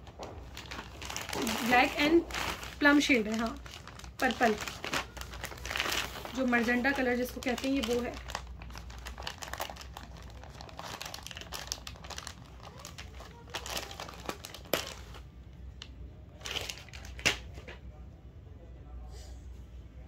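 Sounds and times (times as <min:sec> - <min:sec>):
cloth and packaging crinkling: 0:00.0 - 0:15.3, 0:16.3 - 0:17.7.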